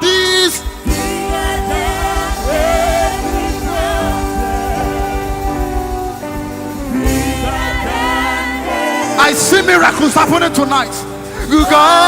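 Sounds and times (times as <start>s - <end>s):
person singing: 0.0s - 6.3s, 6.9s - 12.0s
gospel worship music: 0.0s - 12.0s.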